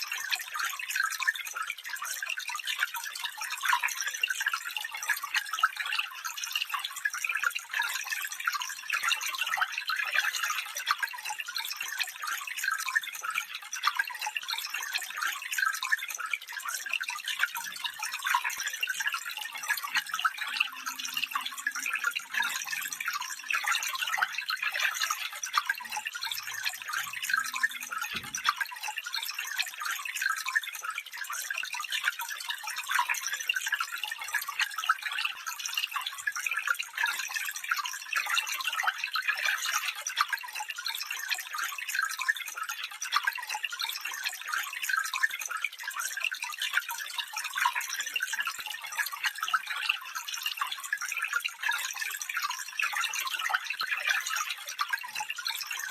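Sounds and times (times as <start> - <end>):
stream trickling and splashing: 0.0 - 55.9.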